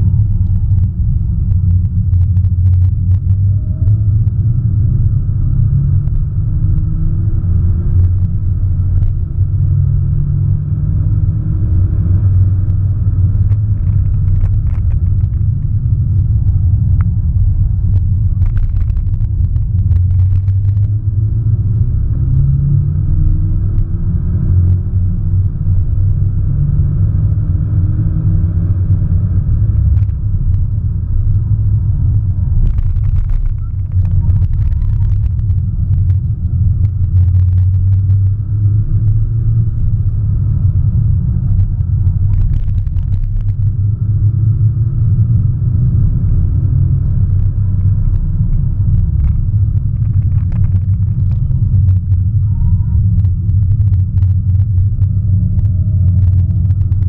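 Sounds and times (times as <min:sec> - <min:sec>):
engine and road noise rumble: 0:00.0 - 0:57.0.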